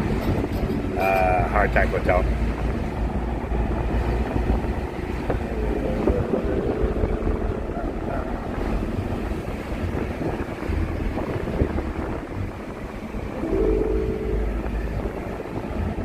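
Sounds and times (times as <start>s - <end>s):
road rumble: 0.0s - 16.0s
wind buffeting microphone: 0.0s - 16.0s.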